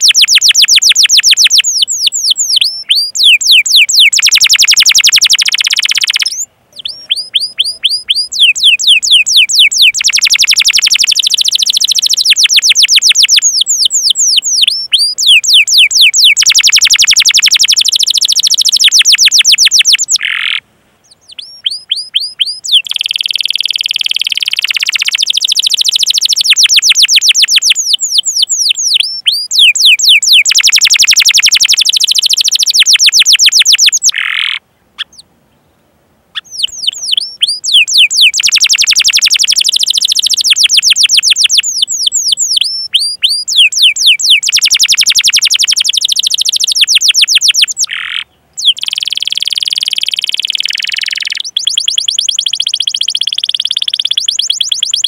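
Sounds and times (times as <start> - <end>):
canary singing: 0.0 - 35.3, 36.3 - 55.0.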